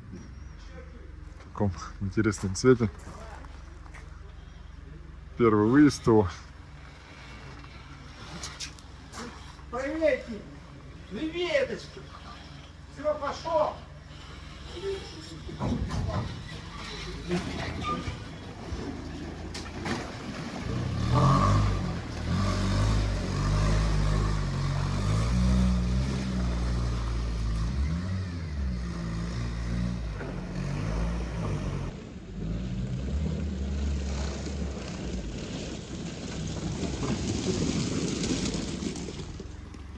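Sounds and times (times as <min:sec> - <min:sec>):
atv engine under load: 0:00.0 - 0:39.9.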